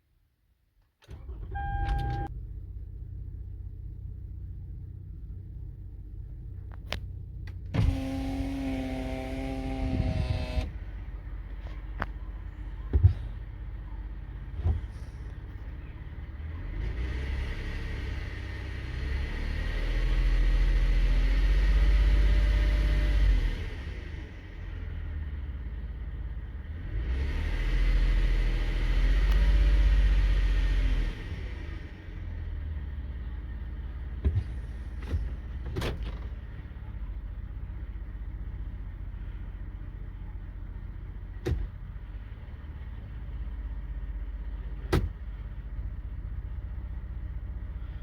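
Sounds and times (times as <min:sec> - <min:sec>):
car engine low rumble: 0:00.0 - 0:48.0.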